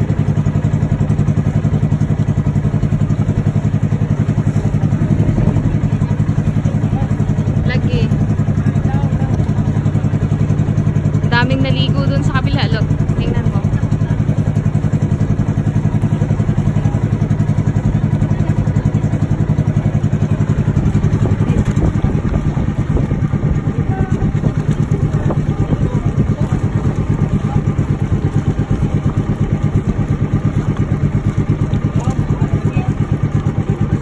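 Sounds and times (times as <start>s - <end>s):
boat engine chugging: 0.0s - 34.0s.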